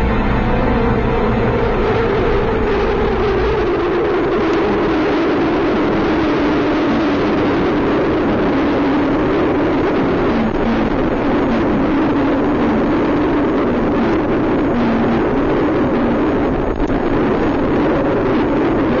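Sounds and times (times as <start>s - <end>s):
car engine and tyre drone: 0.0s - 19.0s.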